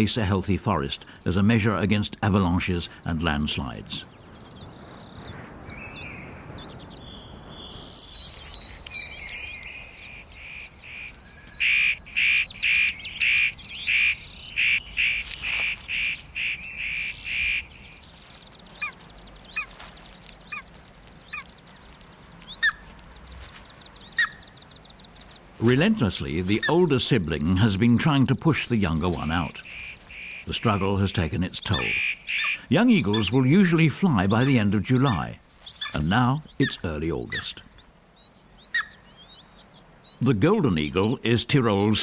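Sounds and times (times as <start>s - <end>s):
bird call notes: 4.0s - 27.2s, 29.0s - 41.2s.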